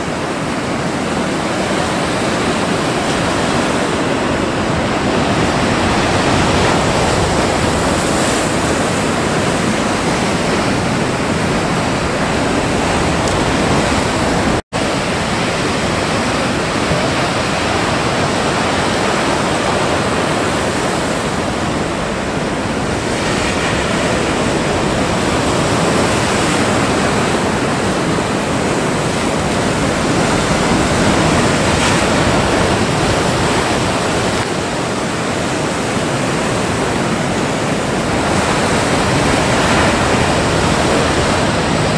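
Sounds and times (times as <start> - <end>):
ocean surf and breaking waves: 0.0 - 41.9.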